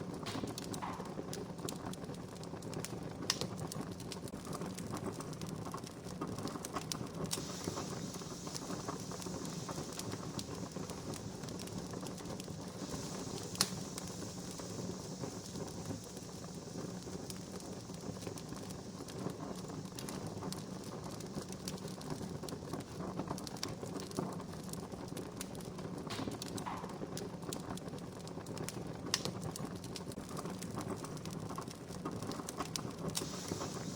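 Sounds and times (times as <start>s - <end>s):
wood fire crackling and popping: 0.0s - 33.9s.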